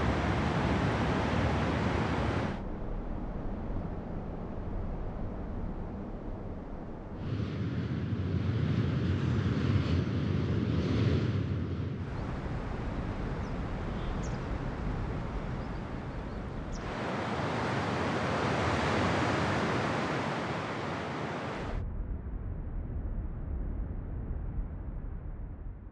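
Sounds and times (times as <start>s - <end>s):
wind rushing with gusts: 0.0s - 21.8s.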